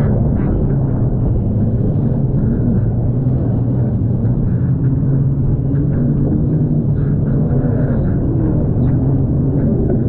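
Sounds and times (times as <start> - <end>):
jet ski engine rumble: 0.0 - 10.0.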